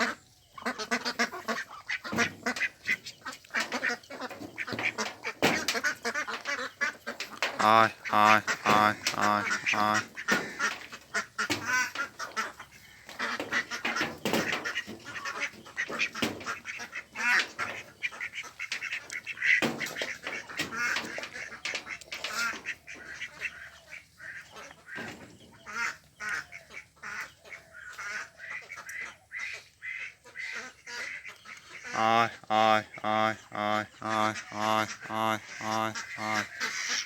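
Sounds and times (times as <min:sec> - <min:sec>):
ducks quacking: 0:00.0 - 0:37.0.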